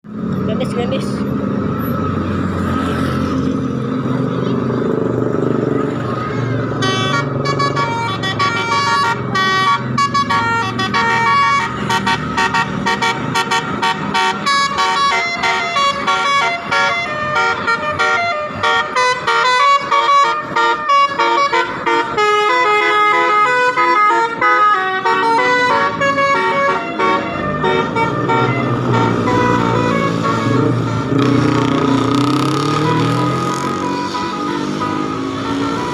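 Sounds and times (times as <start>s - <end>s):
bus engine running: 0.0s - 35.9s
bus horn melody: 6.6s - 35.9s.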